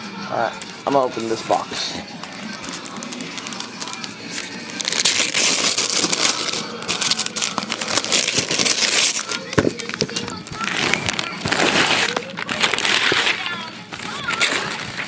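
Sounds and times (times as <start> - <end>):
paper crumpling and tearing: 0.6 - 15.0.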